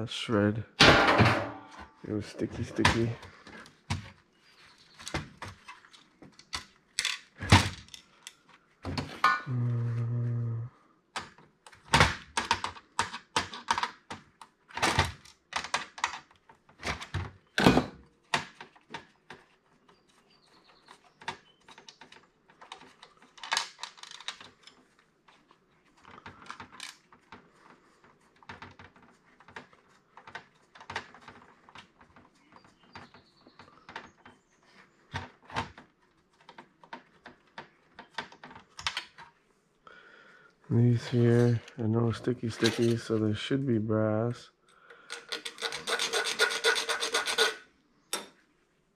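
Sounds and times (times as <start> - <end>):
plastic and metal parts clattering: 0.8 - 4.2, 4.8 - 9.4, 11.2 - 39.4, 41.0 - 43.2, 44.9 - 47.6.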